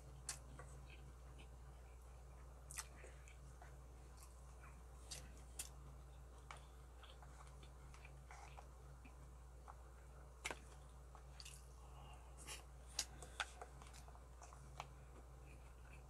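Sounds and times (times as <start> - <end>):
low steady hum: 0.0 - 16.0
quiet chewing: 0.0 - 16.0.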